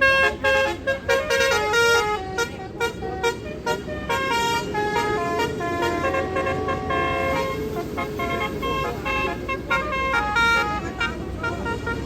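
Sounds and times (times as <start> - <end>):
bus horn playing melody: 0.0 - 12.0.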